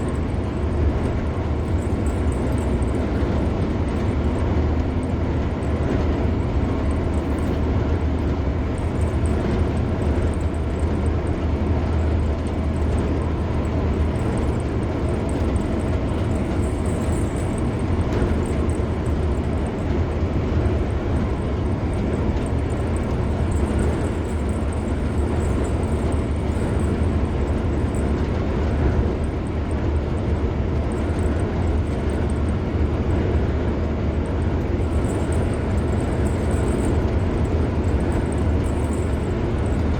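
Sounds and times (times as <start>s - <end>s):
road and wind hiss: 0.0s - 39.9s
tyre and engine rumble: 0.0s - 39.9s.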